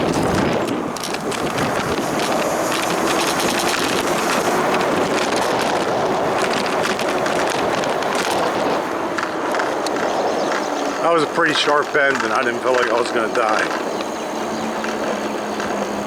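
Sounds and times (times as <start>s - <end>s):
tyres on road: 0.0s - 16.0s
wind rushing over microphone: 0.0s - 16.0s.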